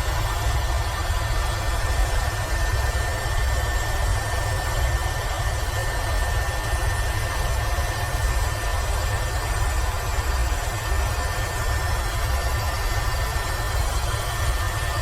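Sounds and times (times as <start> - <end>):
helicopter turbine and rotor: 0.0 - 15.0.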